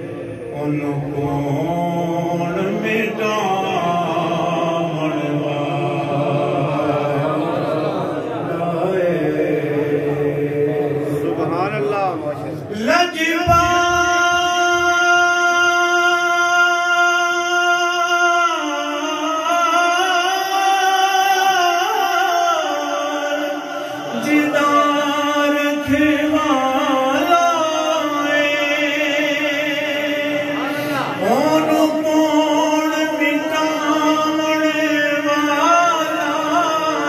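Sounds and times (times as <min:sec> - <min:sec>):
man singing into a microphone: 0:00.0 - 0:11.3, 0:12.6 - 0:37.0.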